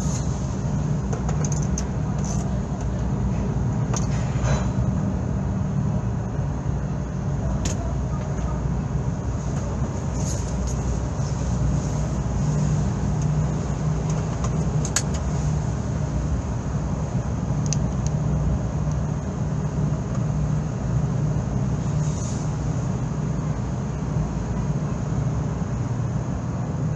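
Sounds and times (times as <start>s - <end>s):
car engine drone: 0.0s - 26.9s.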